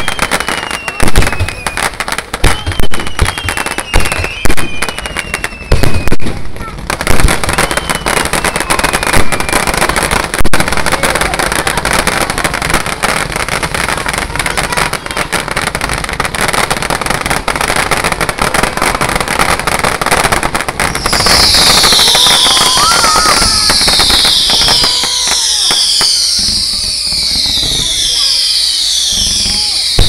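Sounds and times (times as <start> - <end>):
fireworks bangs: 0.0 - 30.0
fireworks crackling: 0.0 - 30.0
fireworks high hiss: 0.0 - 30.0.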